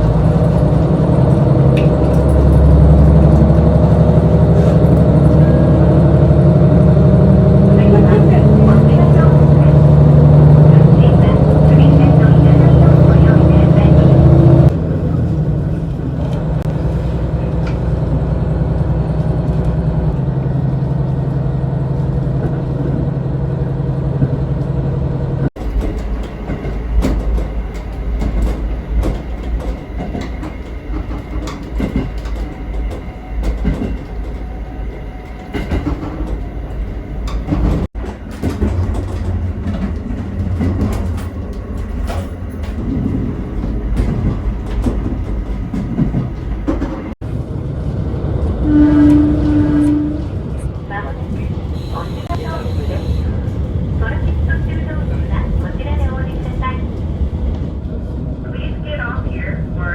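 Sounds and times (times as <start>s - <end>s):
rail joints clicking: 0.0s - 23.0s, 25.6s - 57.8s
railcar engine humming: 0.0s - 59.9s
train rumbling: 0.0s - 59.9s.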